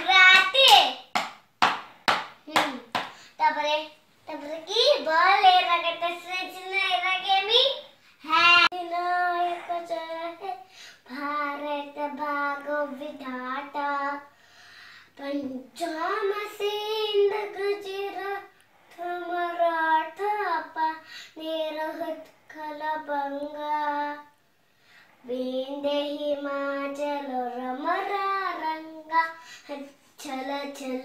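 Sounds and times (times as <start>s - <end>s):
girl singing: 0.0s - 1.2s, 2.4s - 14.4s, 15.0s - 24.4s, 25.1s - 31.0s.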